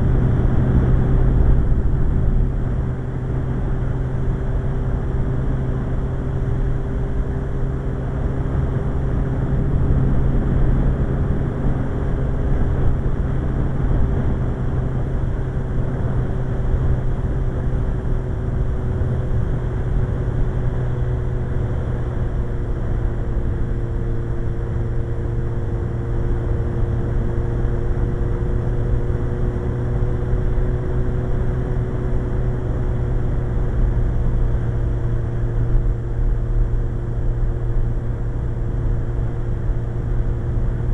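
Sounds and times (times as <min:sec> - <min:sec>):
motorcycle engine cruising: 0:00.0 - 0:40.9
wind rushing over microphone: 0:00.0 - 0:40.9.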